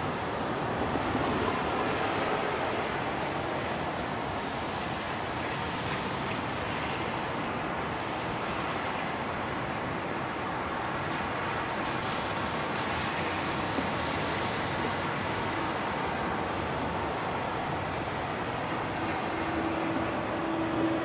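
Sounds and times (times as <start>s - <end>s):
distant jet engines rushing: 0.0s - 21.0s
wind: 0.0s - 21.0s.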